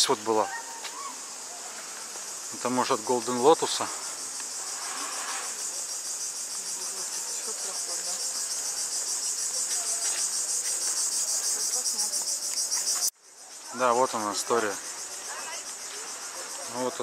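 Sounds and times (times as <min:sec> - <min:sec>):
cicadas chirring: 0:00.0 - 0:17.0.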